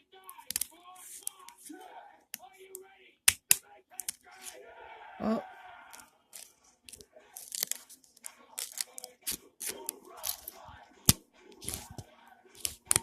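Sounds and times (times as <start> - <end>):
scissors snipping material: 0.3 - 4.6, 5.9 - 13.0.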